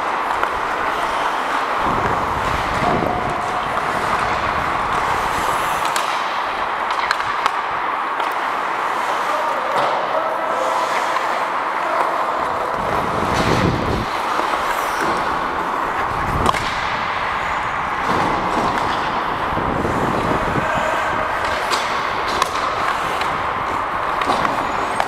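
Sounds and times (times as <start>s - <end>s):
hockey sticks and puck clacking: 0.0s - 25.0s
skates scraping ice: 0.0s - 25.0s.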